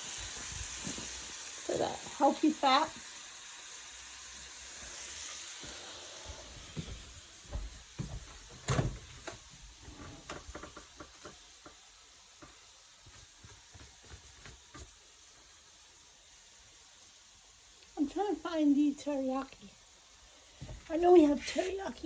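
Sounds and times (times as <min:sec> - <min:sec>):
faint frying sizzle: 0:00.0 - 0:22.0.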